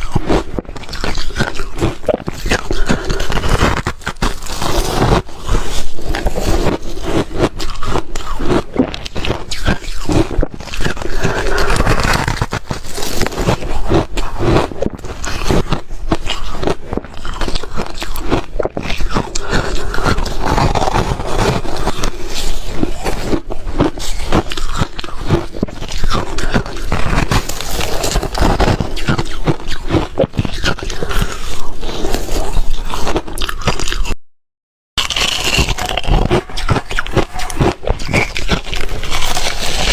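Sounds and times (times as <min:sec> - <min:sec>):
ice crunching while chewed: 0:00.0 - 0:34.2, 0:35.0 - 0:39.9.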